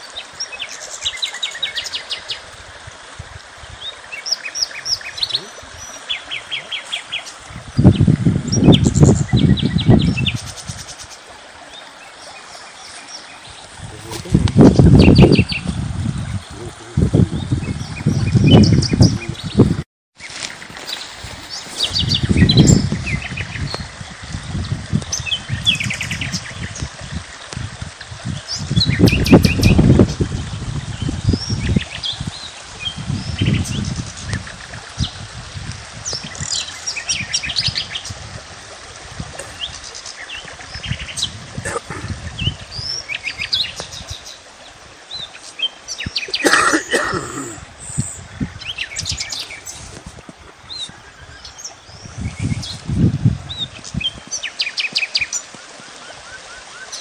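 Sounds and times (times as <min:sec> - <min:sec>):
small birds chirping and trilling: 0:00.0 - 0:02.5, 0:03.6 - 0:27.5, 0:28.3 - 0:35.2, 0:36.0 - 0:38.3, 0:39.4 - 0:50.0, 0:50.6 - 0:57.0.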